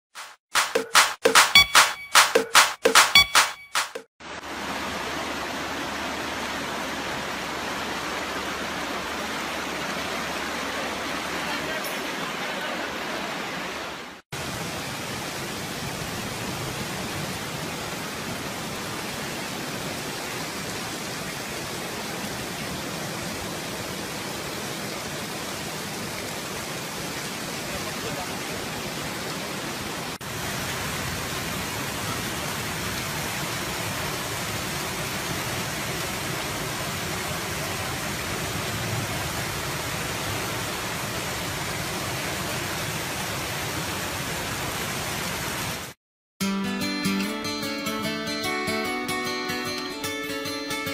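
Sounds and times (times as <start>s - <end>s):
floodwater rushing: 4.2s - 46.0s.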